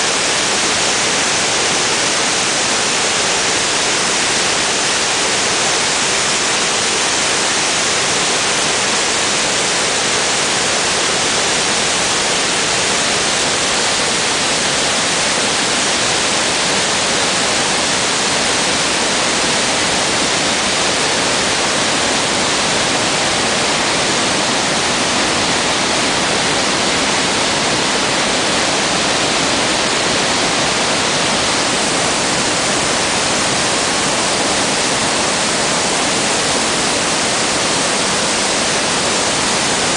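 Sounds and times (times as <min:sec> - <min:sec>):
waterfall rushing onto rocks: 0:00.0 - 0:39.9.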